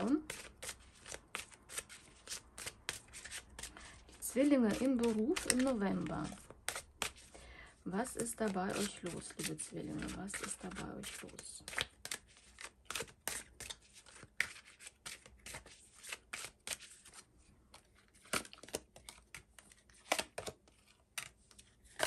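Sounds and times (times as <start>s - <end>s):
cards being shuffled: 0.0s - 7.4s, 8.0s - 22.0s.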